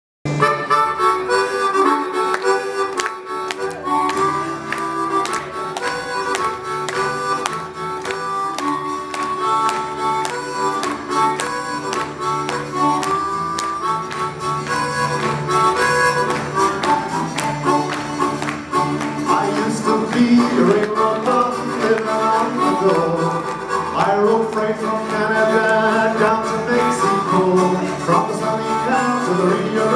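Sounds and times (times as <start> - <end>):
bass guitar: 0.2 - 29.9
chromatic harmonica melody: 0.3 - 29.9
strummed acoustic guitars: 2.4 - 29.9.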